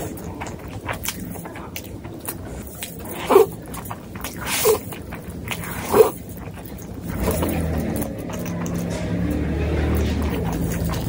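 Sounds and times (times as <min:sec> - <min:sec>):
noodle slurps: 0:00.0 - 0:11.0
wet chewing: 0:00.0 - 0:11.0.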